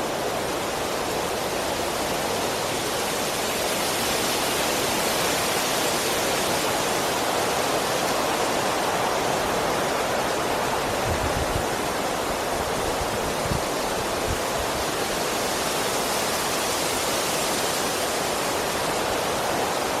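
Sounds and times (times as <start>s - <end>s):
strong wind through trees: 0.0s - 20.0s.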